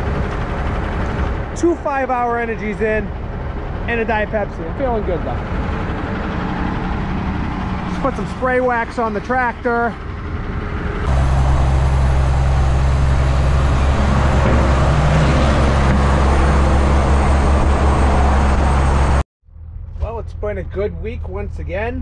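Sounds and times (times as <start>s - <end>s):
road noise: 0.0s - 22.0s
truck diesel engine droning: 0.0s - 22.0s.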